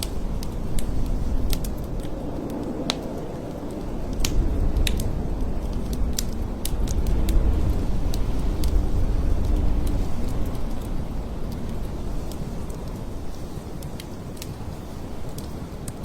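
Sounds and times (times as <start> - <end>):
scattered sharp ticks: 0.0 - 14.6
blizzard wind gusts: 0.0 - 16.0.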